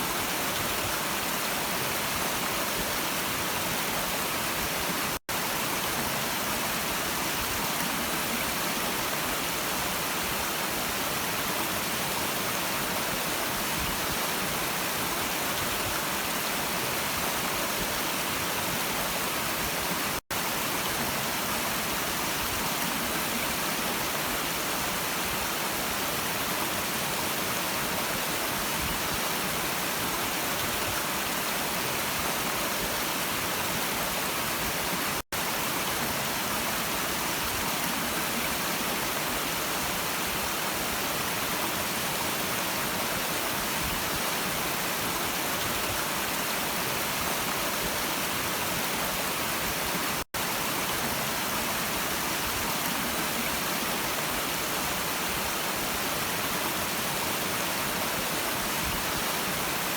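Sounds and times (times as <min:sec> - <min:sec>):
stream water rushing and babbling: 0:00.0 - 0:59.9.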